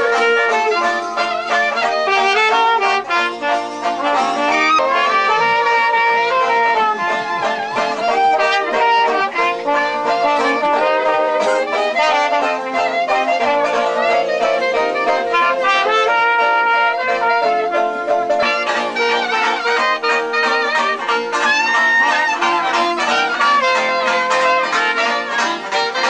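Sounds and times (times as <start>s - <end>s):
jazz band with horns: 0.0s - 26.0s.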